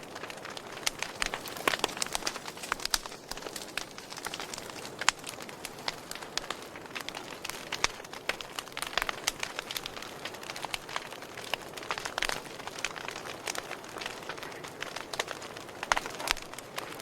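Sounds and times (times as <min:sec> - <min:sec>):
campfire crackling and popping: 0:00.0 - 0:17.0
hiss of burning: 0:00.0 - 0:17.0.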